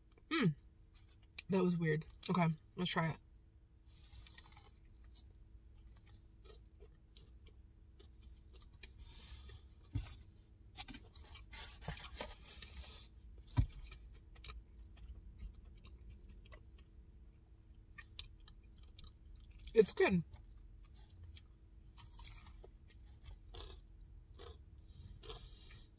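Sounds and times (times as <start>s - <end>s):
chewing food: 3.9s - 25.9s.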